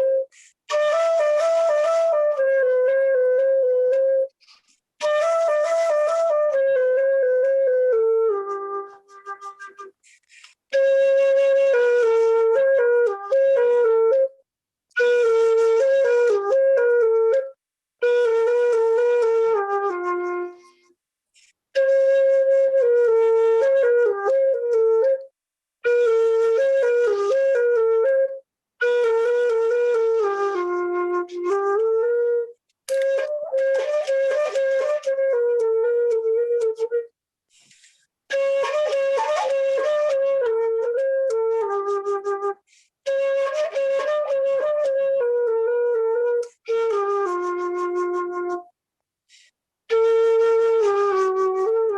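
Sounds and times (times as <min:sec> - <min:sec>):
slow solo flute melody: 0:00.0 - 0:51.9.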